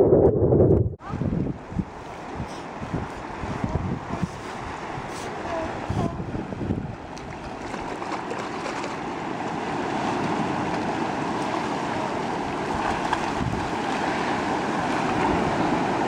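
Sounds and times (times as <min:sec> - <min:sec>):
wind on microphone: 0:00.0 - 0:16.0
waves washing against rocks: 0:01.8 - 0:16.0.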